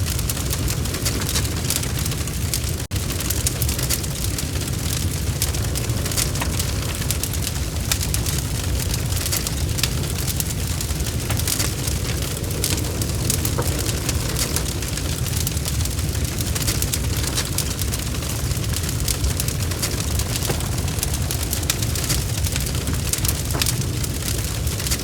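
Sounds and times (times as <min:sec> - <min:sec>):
low rumble of flames: 0:00.0 - 0:25.0
wood crackling and popping: 0:00.0 - 0:25.0.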